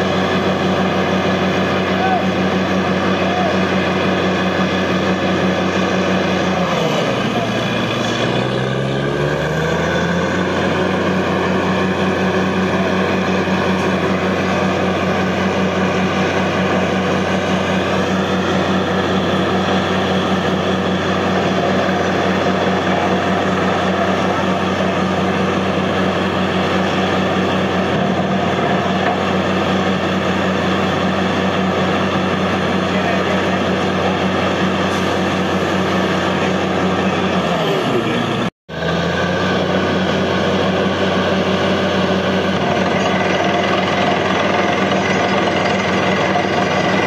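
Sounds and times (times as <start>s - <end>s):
diesel engine droning: 0.0s - 47.0s.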